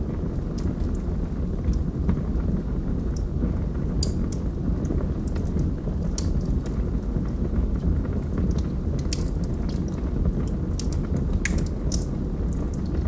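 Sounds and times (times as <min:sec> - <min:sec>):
burning wood crackling and popping: 0:00.0 - 0:13.0
low rumble of flames: 0:00.0 - 0:13.0.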